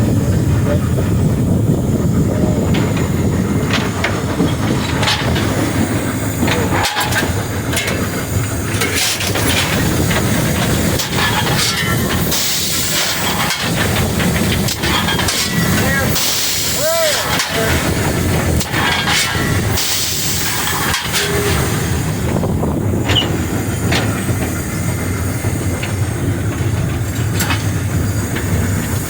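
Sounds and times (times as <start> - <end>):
loud steam hiss: 0.0 - 29.0
steam locomotive rumbling: 0.0 - 29.0
metal clanks and knocks: 2.6 - 29.0.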